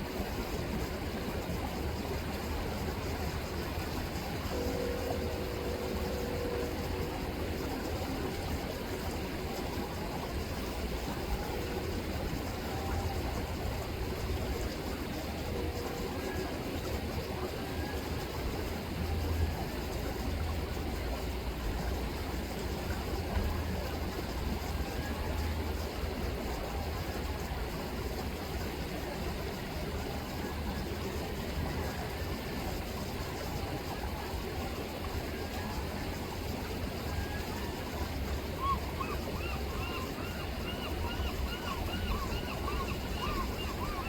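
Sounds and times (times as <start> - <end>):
low steady rumble: 0.0 - 44.0
river water flowing: 0.0 - 44.0.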